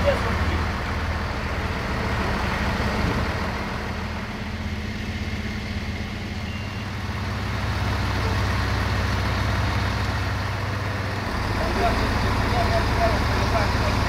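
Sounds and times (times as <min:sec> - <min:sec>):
diesel train engines idling: 0:00.0 - 0:14.0.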